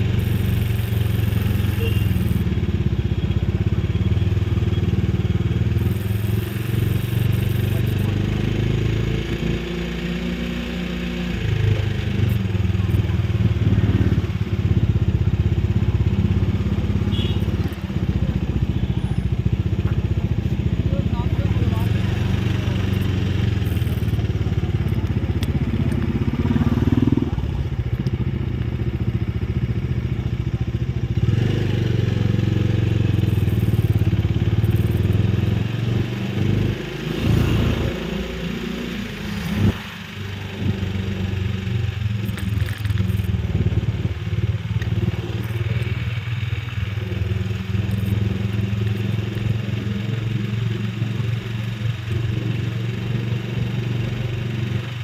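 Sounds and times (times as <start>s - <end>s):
road and wind noise: 0.0s - 55.0s
small vehicle engine running: 0.0s - 55.0s.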